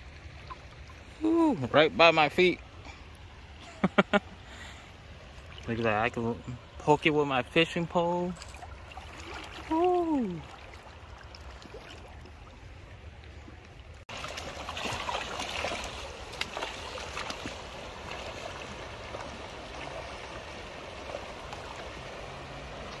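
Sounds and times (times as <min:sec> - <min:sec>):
river water lapping over rocks: 0:00.0 - 0:23.0
small water splashes: 0:00.0 - 0:23.0.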